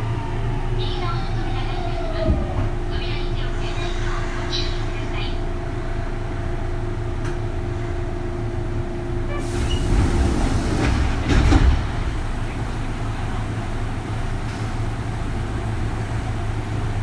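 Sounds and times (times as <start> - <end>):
train rumble and rush: 0.0 - 17.0.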